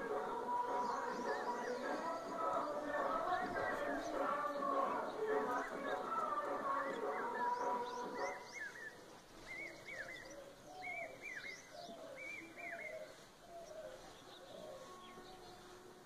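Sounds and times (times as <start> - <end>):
birds chirping: 0.0 - 16.0
faint lower bird calls: 0.0 - 16.0.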